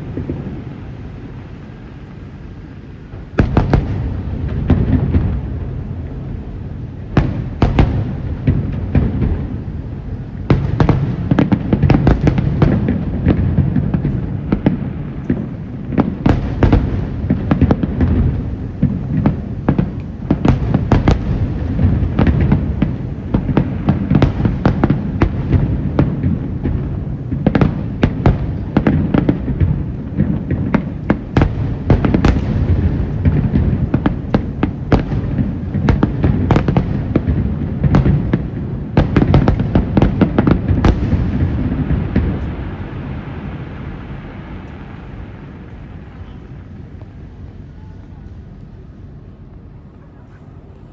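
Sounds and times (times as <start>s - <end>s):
fireworks bangs: 0.0s - 50.9s
steady low rumble: 0.0s - 50.9s.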